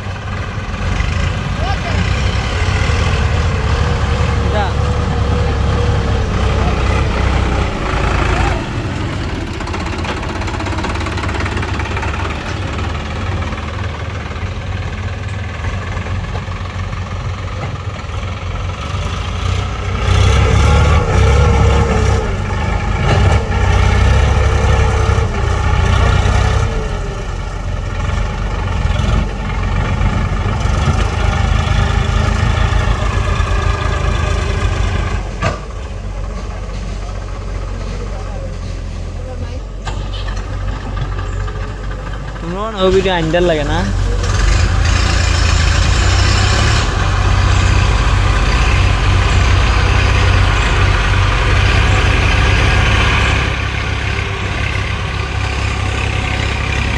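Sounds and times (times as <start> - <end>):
heavy machinery diesel engine: 0.0 - 56.9.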